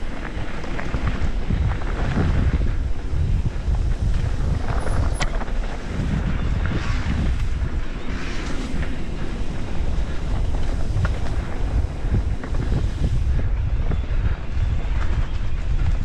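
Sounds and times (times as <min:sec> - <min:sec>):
bike clicks and rattles: 0:00.0 - 0:16.0
wind buffeting microphone: 0:00.0 - 0:16.0.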